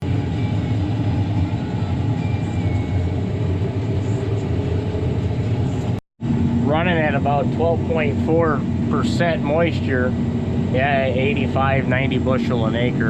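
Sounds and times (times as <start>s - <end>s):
combine harvester engine rumbling: 0.0s - 13.0s.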